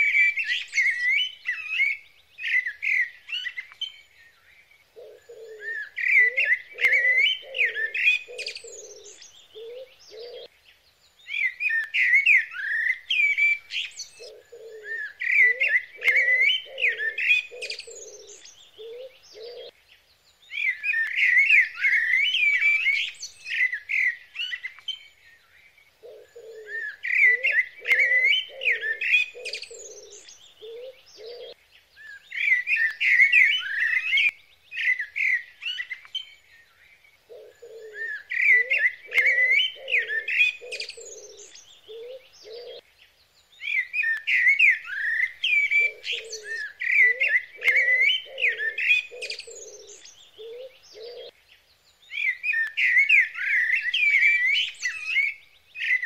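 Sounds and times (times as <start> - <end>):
birds chirping and twittering: 0.0 - 56.0.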